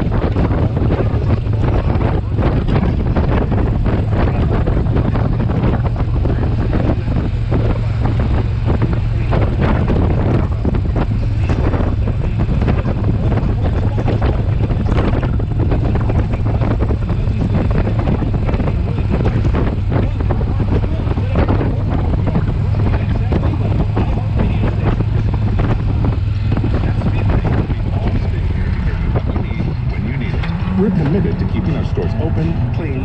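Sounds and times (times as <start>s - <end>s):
motorcycle engine hum: 0.0s - 33.0s
wind buffeting microphone: 0.0s - 33.0s.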